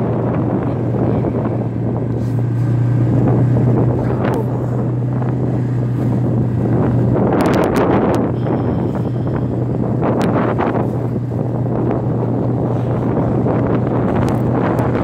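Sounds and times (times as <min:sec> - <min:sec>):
truck engine drone: 0:00.0 - 0:15.0
wind buffeting microphone: 0:00.0 - 0:15.0.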